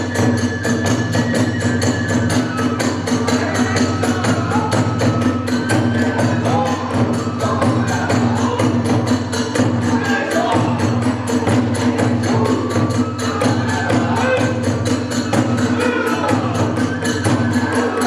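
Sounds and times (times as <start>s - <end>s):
bamboo flute: 0.0s - 18.0s
drum: 0.0s - 18.0s.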